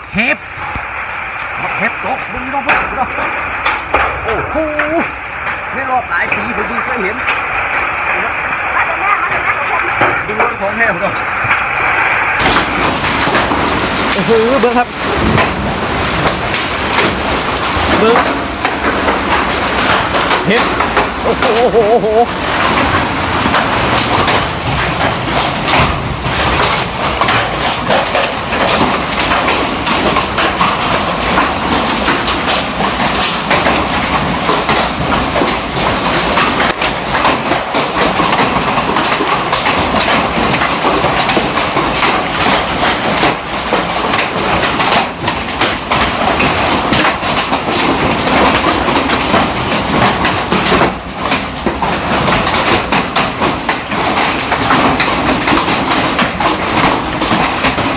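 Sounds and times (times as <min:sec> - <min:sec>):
hailstones pelting down: 0:00.0 - 0:57.9.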